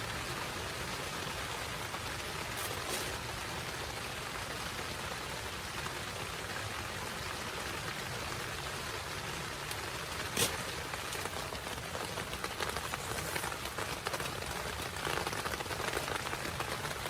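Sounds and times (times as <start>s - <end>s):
heavy rain falling: 0.0s - 17.0s
sharp raindrop taps: 0.0s - 17.0s.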